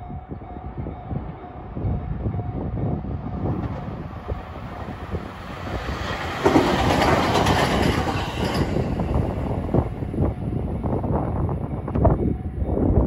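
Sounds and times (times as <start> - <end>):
electric train running past: 0.0 - 13.0.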